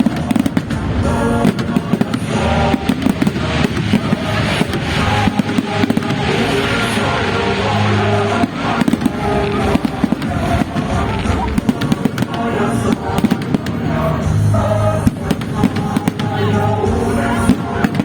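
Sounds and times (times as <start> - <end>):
firework bangs and crackles: 0.0 - 18.0
music playing: 0.0 - 18.0.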